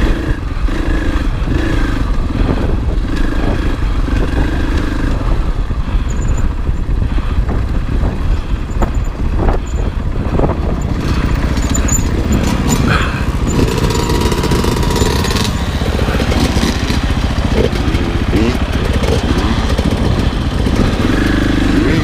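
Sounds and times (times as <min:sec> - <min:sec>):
dirt bike engine under throttle: 0:00.0 - 0:22.0.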